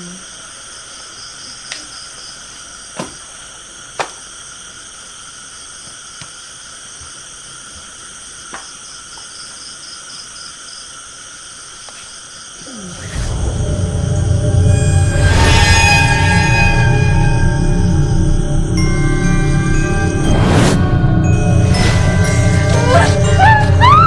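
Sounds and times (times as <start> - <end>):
insect chorus drone: 0.0 - 24.0
pulsing insect chirp: 0.0 - 24.0.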